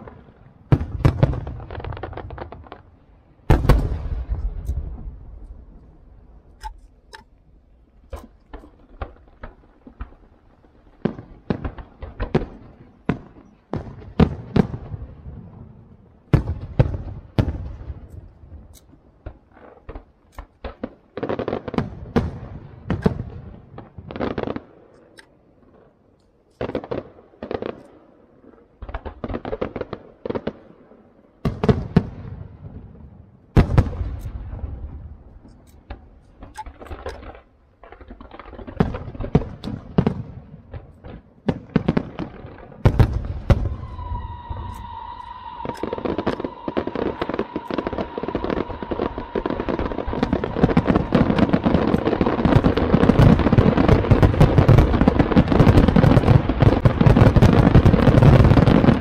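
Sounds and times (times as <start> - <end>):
fireworks bangs: 0.0 - 7.4, 8.1 - 26.0, 26.6 - 59.0
fireworks crackling: 0.0 - 59.0.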